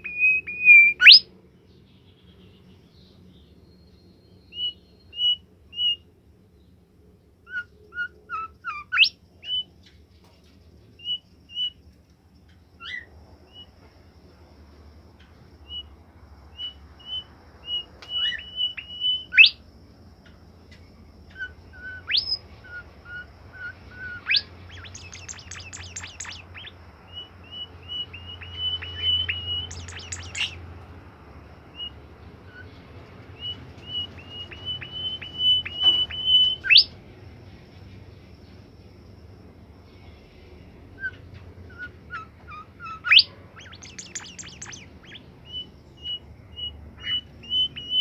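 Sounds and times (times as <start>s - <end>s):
faint low hum: 0.0s - 48.0s
songbird singing: 0.0s - 48.0s.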